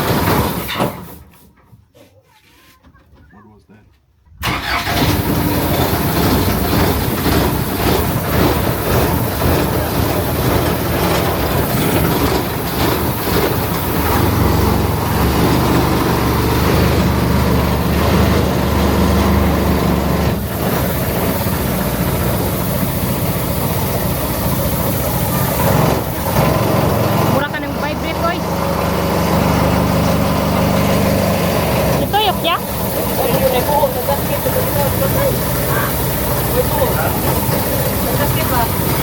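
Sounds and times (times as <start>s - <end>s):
boat engine running: 0.0s - 0.7s, 4.4s - 39.0s.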